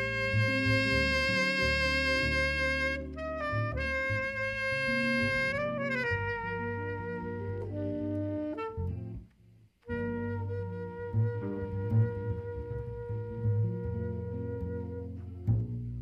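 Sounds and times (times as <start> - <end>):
solo wind instrument sustained notes: 0.0 - 9.2, 9.8 - 15.6
low bass accompaniment: 0.0 - 9.3, 9.9 - 16.0.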